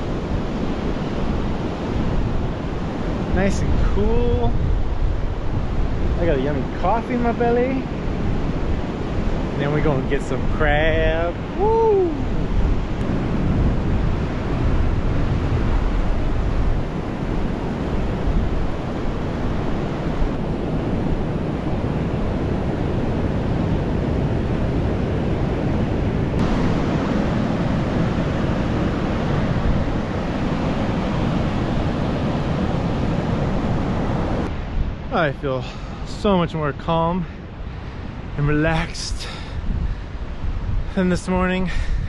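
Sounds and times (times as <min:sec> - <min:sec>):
ocean surf washing onto beach: 0:00.0 - 0:42.0
wind buffeting microphone: 0:00.0 - 0:42.0.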